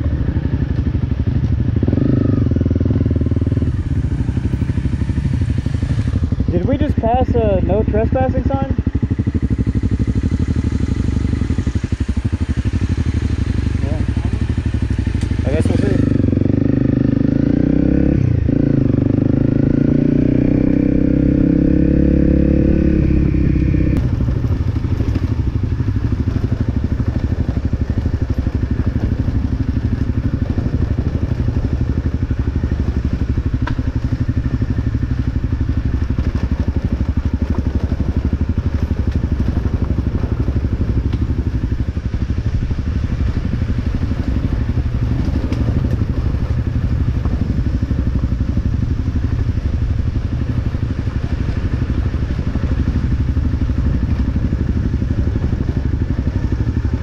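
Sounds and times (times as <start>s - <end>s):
dirt road riding noise: 0.0s - 57.0s
motorcycle engine pulling away: 0.0s - 57.0s.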